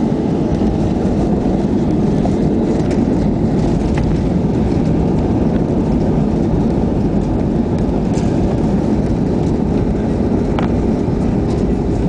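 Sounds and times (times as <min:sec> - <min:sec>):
airliner cabin rumble on landing: 0:00.0 - 0:12.0.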